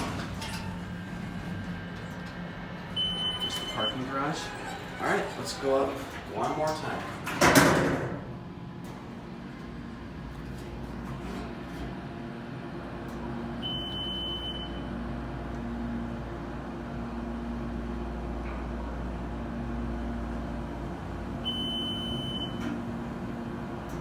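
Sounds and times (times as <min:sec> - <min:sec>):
elevator pump motor humming: 0:00.0 - 0:24.0.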